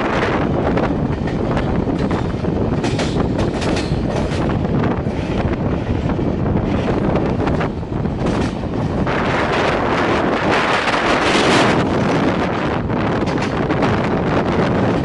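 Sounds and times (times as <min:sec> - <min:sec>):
train rushing on rails: 0:00.0 - 0:15.0
wind buffeting microphone: 0:00.0 - 0:15.0.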